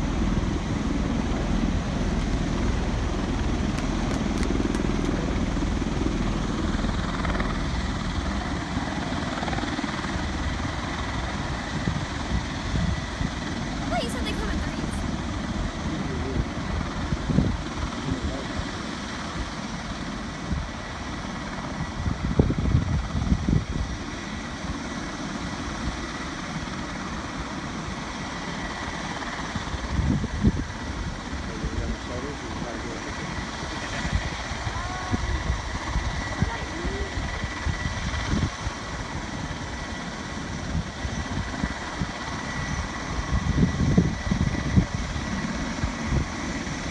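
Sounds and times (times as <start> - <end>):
wind buffeting microphone: 0.0 - 20.9, 21.5 - 24.7, 29.4 - 46.9
aircraft engine and rotor noise: 0.0 - 46.9.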